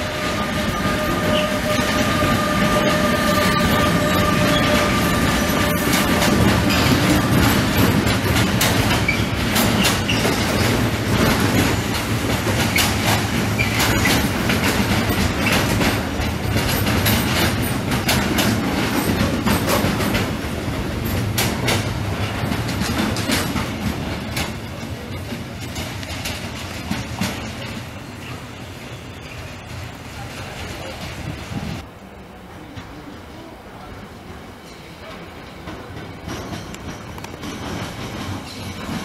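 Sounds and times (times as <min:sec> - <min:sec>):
wheels clicking over rail joints: 0:00.0 - 0:31.9, 0:34.6 - 0:39.0
train wheels rumbling on rail: 0:00.0 - 0:39.0.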